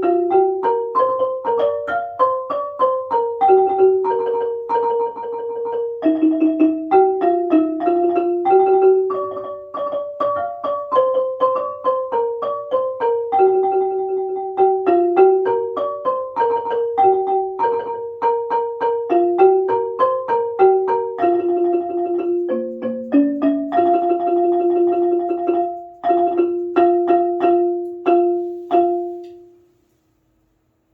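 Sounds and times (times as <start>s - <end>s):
xylophone fast melody: 0.0s - 29.6s.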